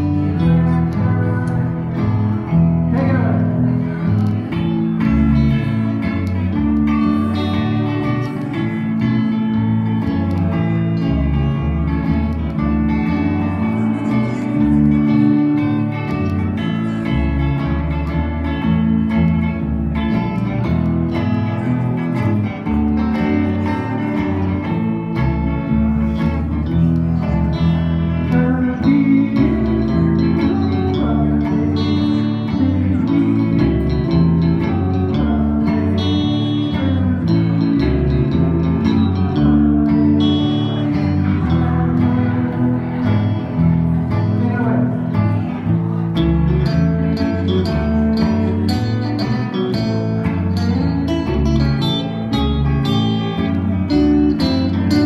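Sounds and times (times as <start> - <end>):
electric guitars: 0.0 - 55.0
live band playing: 0.0 - 55.0
pedal steel guitar: 0.0 - 55.0
steady bass line: 0.0 - 55.0.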